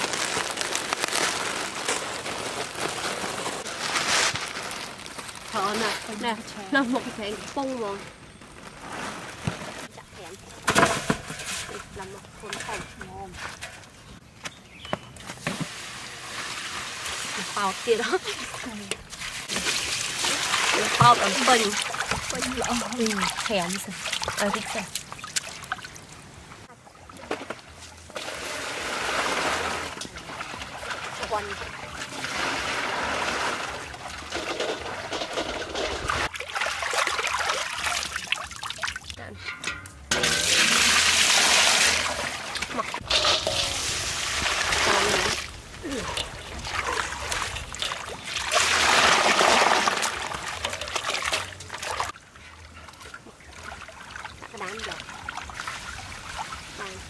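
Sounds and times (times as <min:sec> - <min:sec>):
water splashing and trickling: 0:00.0 - 0:14.2, 0:15.2 - 0:57.0.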